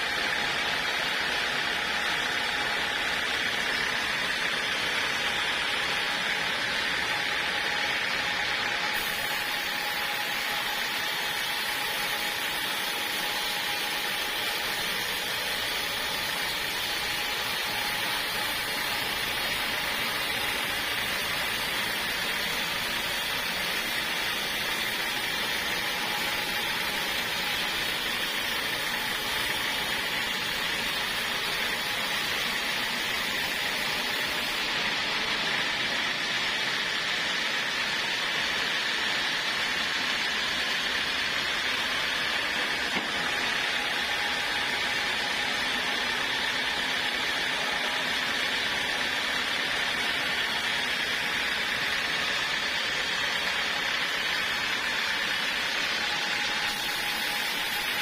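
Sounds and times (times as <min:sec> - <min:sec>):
saw whining through log: 0:00.0 - 0:58.0.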